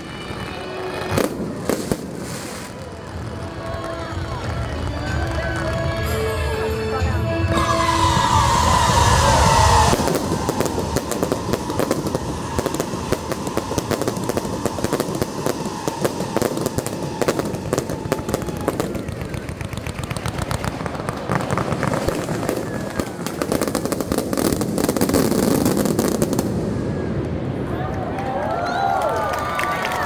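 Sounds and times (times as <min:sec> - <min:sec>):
fireworks crackling and popping: 0:00.0 - 0:27.4.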